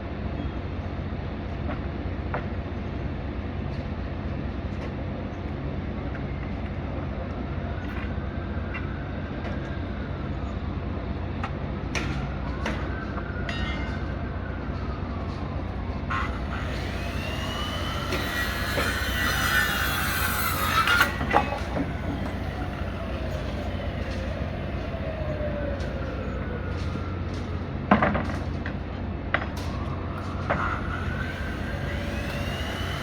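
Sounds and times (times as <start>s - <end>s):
vehicle rumble with whines: 3.9s - 33.0s.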